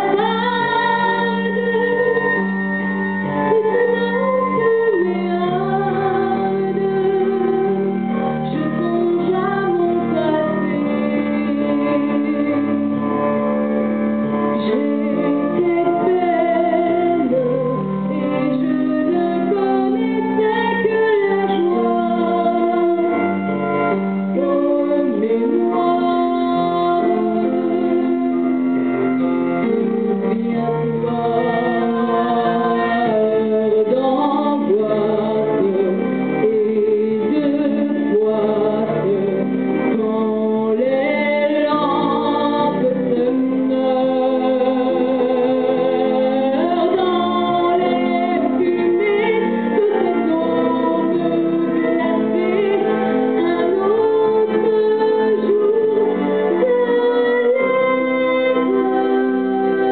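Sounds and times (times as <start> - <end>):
woman singing: 0.0 - 13.7, 14.3 - 59.9
instrumental accompaniment: 0.0 - 59.9.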